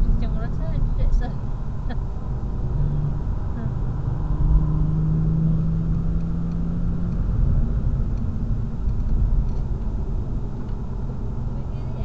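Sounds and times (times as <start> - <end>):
car engine running: 0.0 - 12.0
road and tyre rumble: 0.0 - 12.0.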